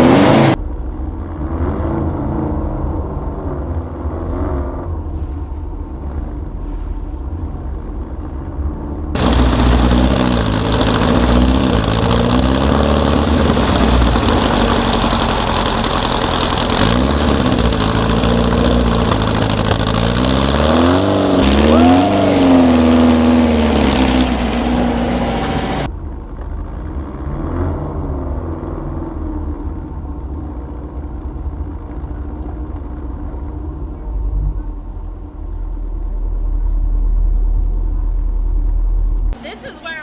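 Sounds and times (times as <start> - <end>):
car engine revving: 0.0 - 39.6.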